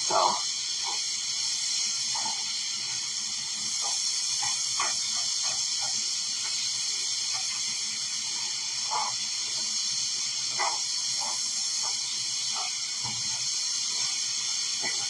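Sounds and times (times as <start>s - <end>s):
nuts sizzling in a frying pan: 0.0s - 15.0s.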